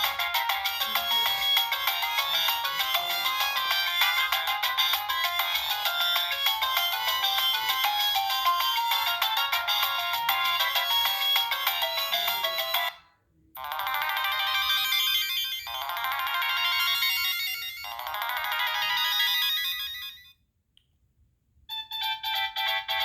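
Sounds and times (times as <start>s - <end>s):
mobile phone ringtone melody: 0.0s - 13.0s, 13.6s - 20.4s, 21.7s - 23.0s
ringtone of fast repeated notes: 0.0s - 13.0s, 13.6s - 20.4s, 21.7s - 23.0s.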